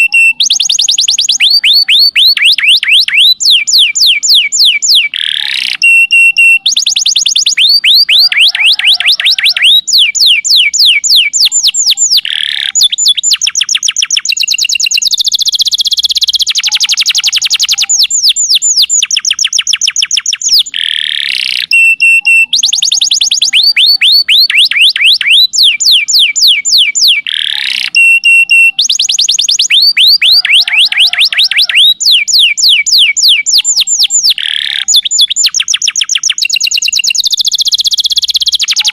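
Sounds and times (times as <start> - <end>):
canary singing fast trills: 0.0 - 38.9.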